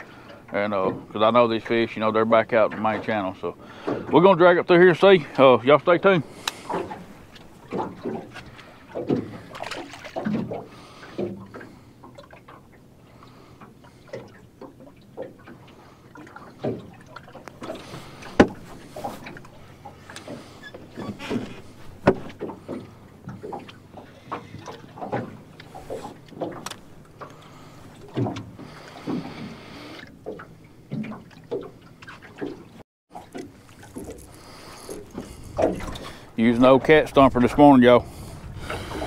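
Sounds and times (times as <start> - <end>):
waves slapping metal boat: 0.0 - 39.0.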